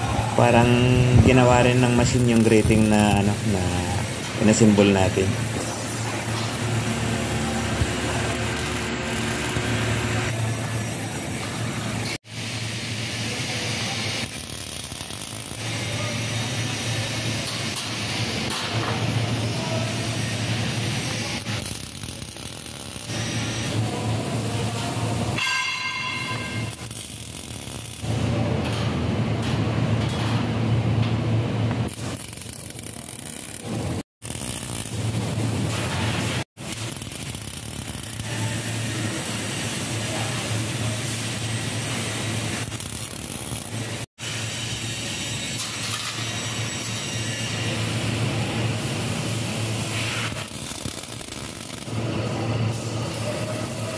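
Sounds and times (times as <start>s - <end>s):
welding arc crackling hiss: 0.0s - 28.9s, 31.8s - 53.9s.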